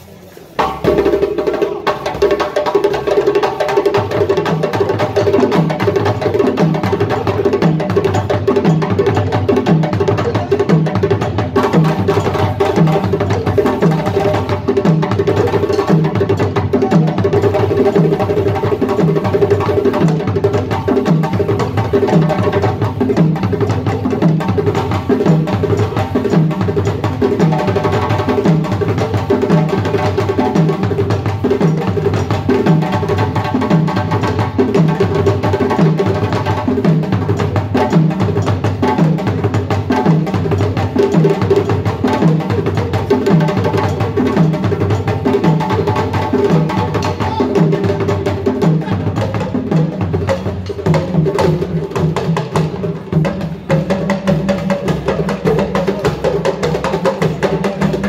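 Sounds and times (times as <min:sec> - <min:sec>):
drum ensemble playing: 0:00.0 - 0:58.0
talking drum: 0:00.2 - 0:58.0.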